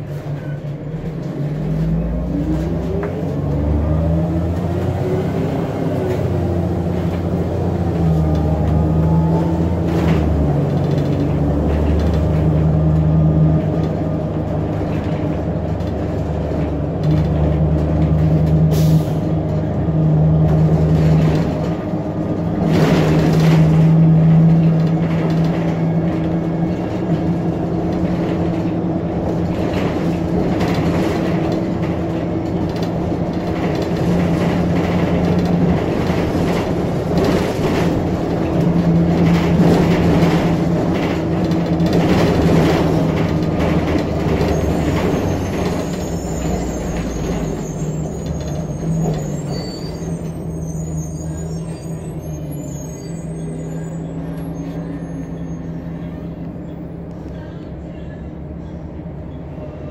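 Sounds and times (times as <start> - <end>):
bus engine hum: 0.0 - 59.9
road noise: 0.0 - 59.9.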